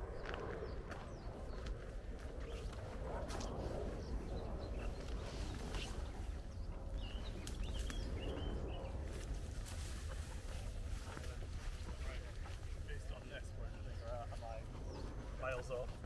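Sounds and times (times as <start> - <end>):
light footsteps: 0.0 - 6.4, 7.2 - 16.0
steady low rumble: 0.0 - 16.0.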